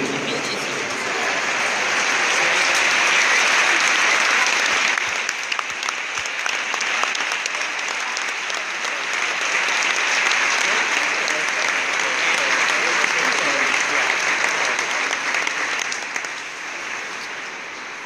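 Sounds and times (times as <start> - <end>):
stadium crowd applauding: 0.0 - 18.0.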